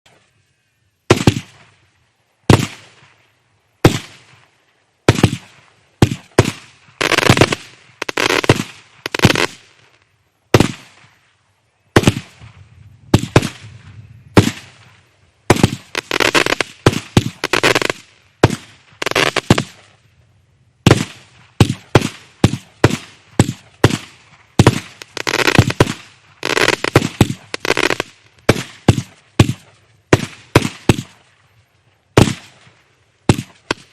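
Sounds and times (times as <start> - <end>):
firework crackling: 1.1 - 11.4, 12.0 - 20.2, 20.8 - 33.9.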